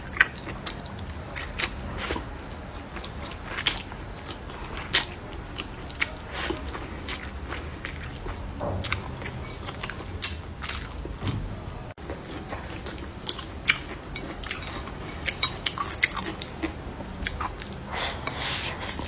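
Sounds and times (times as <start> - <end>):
chewing and mouth sounds: 0.0 - 11.3, 12.0 - 19.0.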